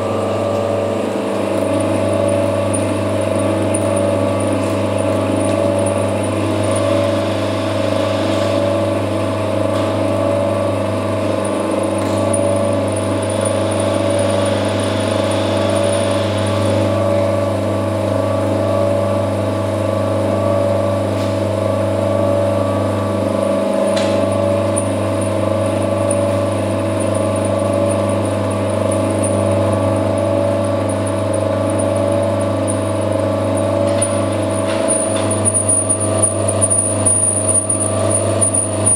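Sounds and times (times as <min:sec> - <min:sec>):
lathe spindle hum: 0:00.0 - 0:38.9.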